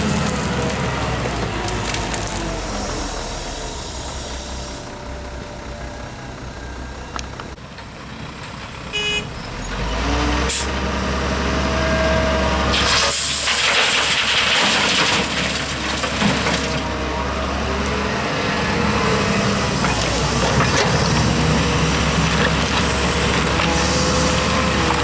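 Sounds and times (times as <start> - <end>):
construction machinery engine drone: 0.0 - 25.0.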